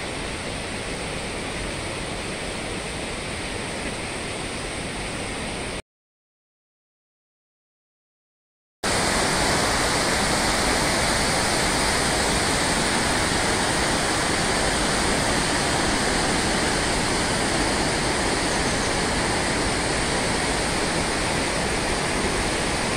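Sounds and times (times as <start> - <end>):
mountain stream rushing: 0.0 - 5.8, 8.9 - 22.9.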